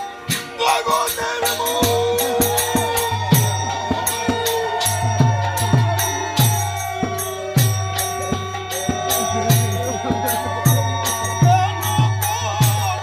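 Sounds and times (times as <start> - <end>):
drum beating: 0.0 - 13.0
held wavering melody: 0.0 - 13.0
jingling hand percussion: 0.0 - 13.0.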